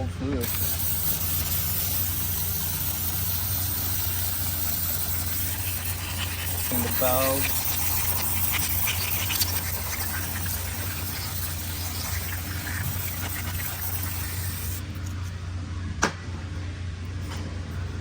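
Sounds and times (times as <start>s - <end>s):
low steady hum: 0.0s - 18.0s
steady spraying hiss: 0.4s - 15.1s.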